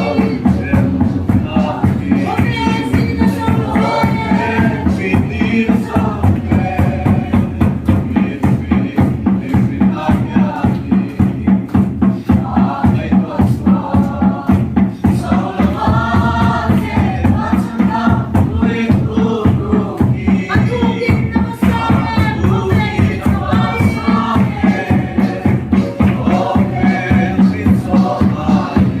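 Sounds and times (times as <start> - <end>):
congregation singing: 0.0 - 29.0
steady driving drum beat: 0.0 - 29.0.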